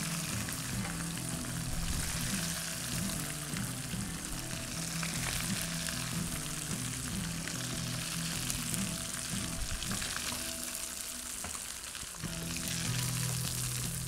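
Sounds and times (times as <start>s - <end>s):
fish deep-frying in oil: 0.0s - 14.0s.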